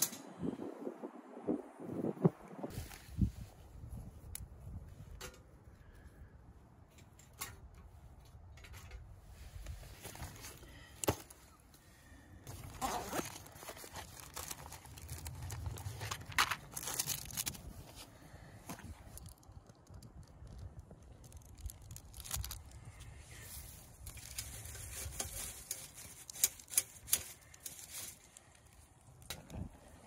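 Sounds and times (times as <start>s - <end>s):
camping gear rustling and crinkling: 1.9s - 30.0s.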